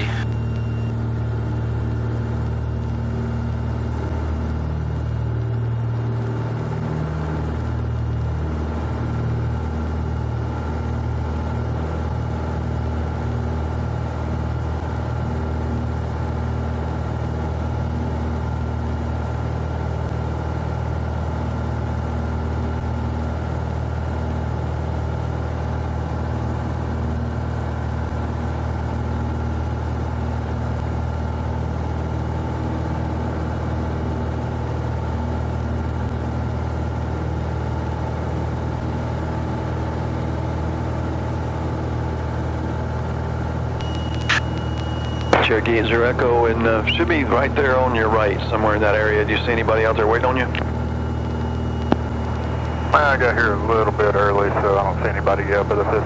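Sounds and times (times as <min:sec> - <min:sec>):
aircraft engine and propeller droning: 0:00.0 - 0:56.0.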